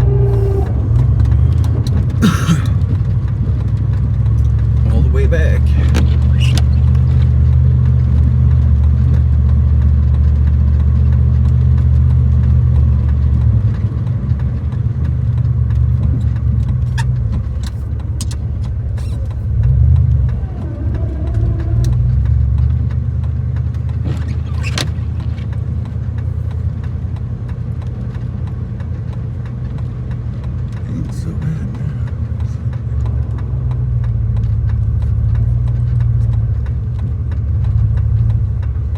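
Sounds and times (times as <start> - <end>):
truck engine under load: 0.0 - 38.9.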